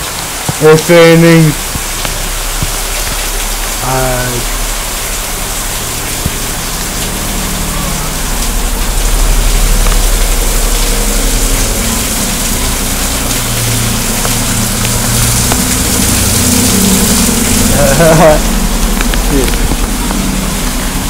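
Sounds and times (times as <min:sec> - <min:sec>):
rain falling: 0:00.0 - 0:21.0
low hum: 0:01.5 - 0:21.0.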